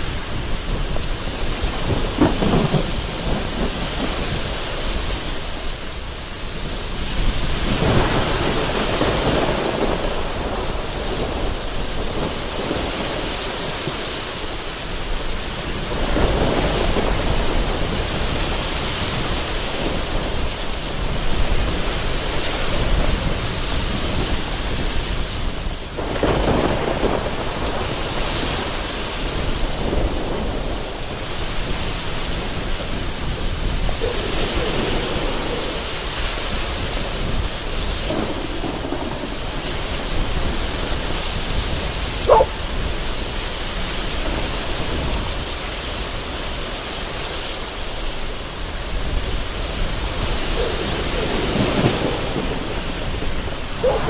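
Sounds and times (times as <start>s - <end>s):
gusting wind: 0.0s - 54.0s
heavy rain against a window: 0.0s - 54.0s
low rumbles of thunder: 0.0s - 54.0s.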